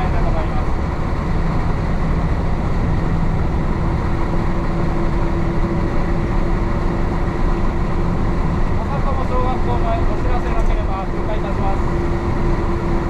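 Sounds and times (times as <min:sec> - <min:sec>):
diesel bus engine droning: 0:00.0 - 0:13.0.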